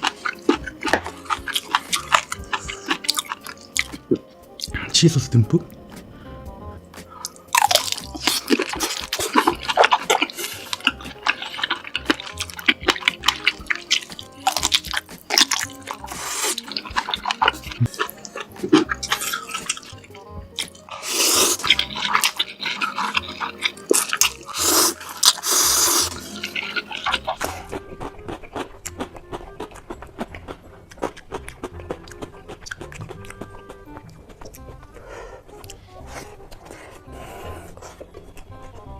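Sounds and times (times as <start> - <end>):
wet sticky mouth noises: 0.0 - 4.9, 7.0 - 20.0, 20.6 - 35.8
person chewing food: 0.0 - 5.0, 7.0 - 38.9.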